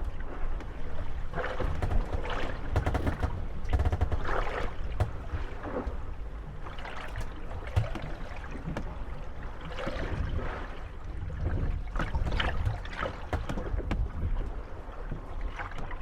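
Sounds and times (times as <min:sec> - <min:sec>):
water slapping against boat hulls: 0:00.0 - 0:16.0
wooden boats knocking and creaking: 0:00.0 - 0:16.0.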